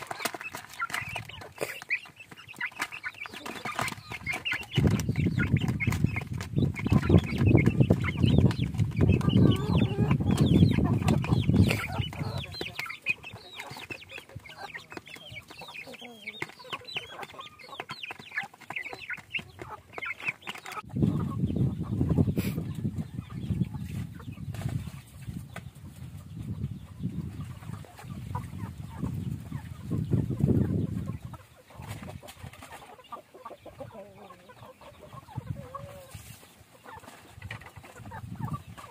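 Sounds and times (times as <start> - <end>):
chicks peeping and clucking: 0.0 - 38.9.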